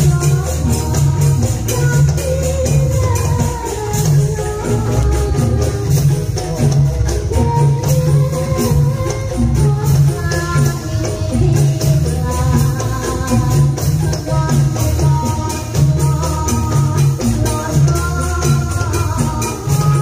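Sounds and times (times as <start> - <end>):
drum beats: 0.0 - 20.0
jingling percussion: 0.0 - 20.0.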